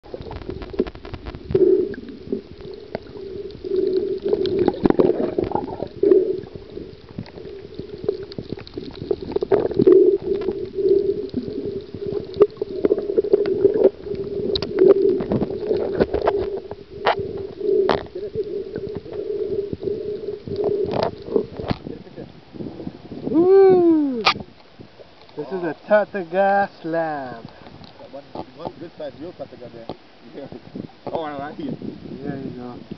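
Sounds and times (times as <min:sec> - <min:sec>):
underwater bubbling and gurgling: 0:00.0 - 0:32.9.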